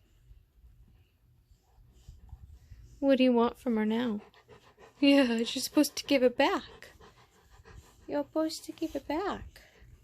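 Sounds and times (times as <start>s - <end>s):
faint low rumble: 0.0s - 10.0s.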